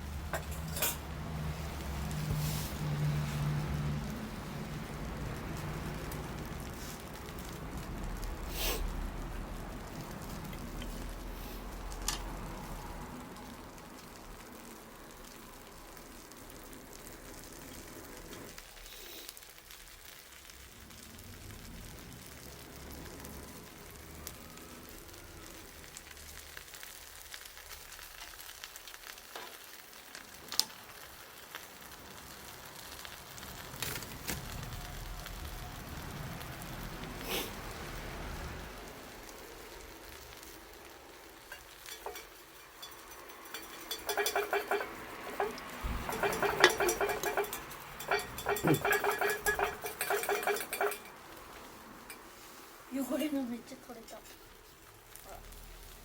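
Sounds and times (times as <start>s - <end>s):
bonfire hissing: 0.0s - 56.0s
fire crackling pops: 0.0s - 56.0s.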